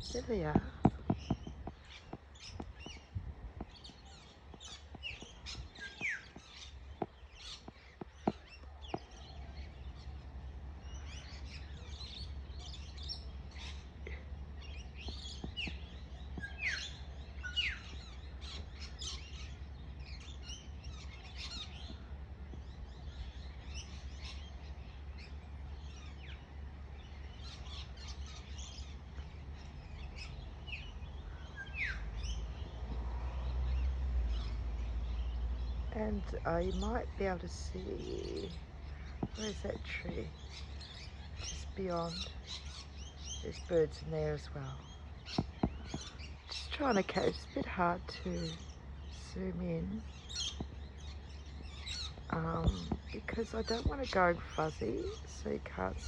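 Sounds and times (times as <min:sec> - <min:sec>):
birds chirping and twittering: 0:00.0 - 0:56.0
steady low rumble: 0:00.0 - 0:56.0.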